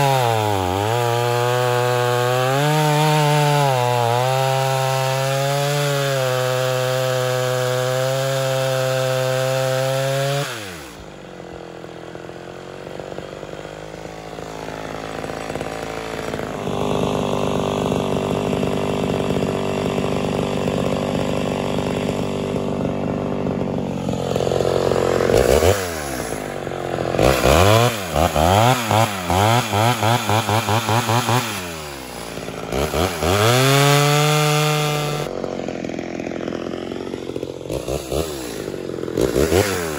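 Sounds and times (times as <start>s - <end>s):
chainsaw cutting and revving: 0.0s - 39.9s.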